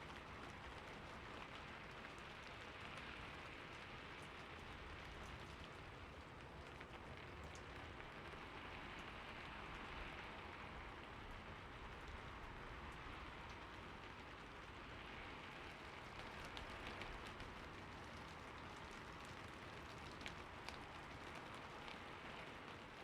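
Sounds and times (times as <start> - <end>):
raindrop ticks: 0.0 - 10.1, 11.0 - 23.0
rain hissing on hard surfaces: 0.0 - 23.0.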